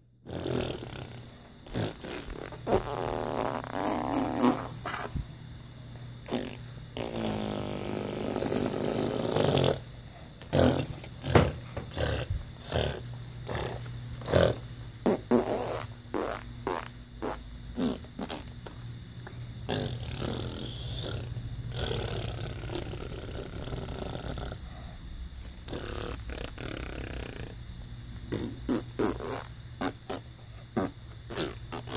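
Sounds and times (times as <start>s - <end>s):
person making fart noises: 0.2s - 5.2s, 6.2s - 18.8s, 19.7s - 24.6s, 25.6s - 27.6s, 28.3s - 31.9s.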